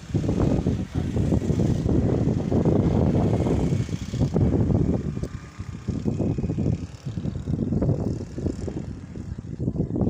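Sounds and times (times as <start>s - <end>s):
gusty wind buffeting microphone: 0.0s - 10.0s.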